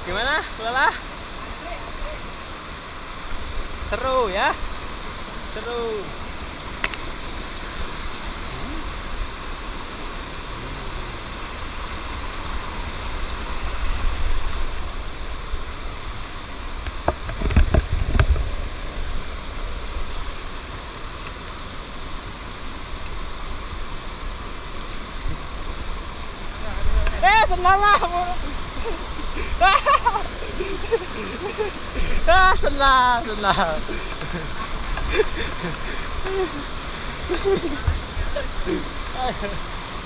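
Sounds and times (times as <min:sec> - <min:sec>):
stream rushing over boulders: 0:00.0 - 0:40.0.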